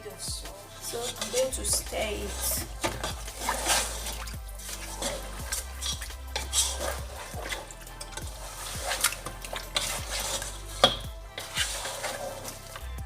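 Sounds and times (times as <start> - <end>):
spoon scraping a cooking pot: 0.7 - 13.0.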